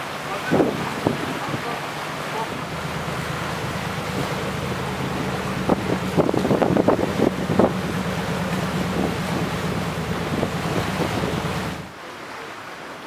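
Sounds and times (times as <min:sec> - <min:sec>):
low ship engine drone: 0:00.0 - 0:13.0
water lapping: 0:00.0 - 0:13.0
wind buffeting microphone: 0:00.3 - 0:11.9.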